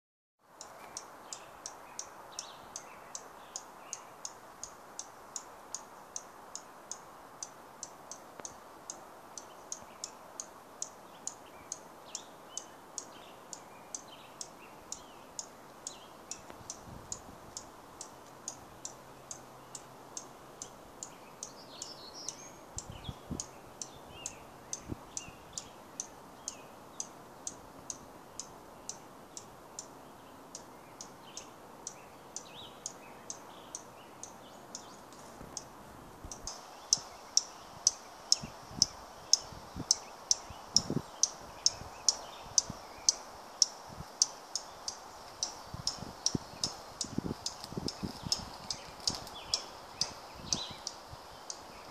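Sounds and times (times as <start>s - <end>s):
soft bird chirps: 0.6s - 35.7s, 36.3s - 51.9s.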